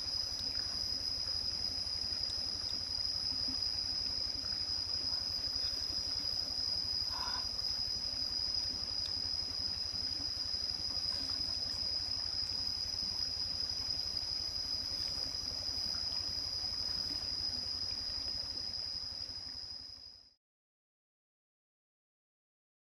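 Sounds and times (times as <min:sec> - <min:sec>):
low constant rumble: 0:00.0 - 0:20.0
insects droning: 0:00.0 - 0:20.4.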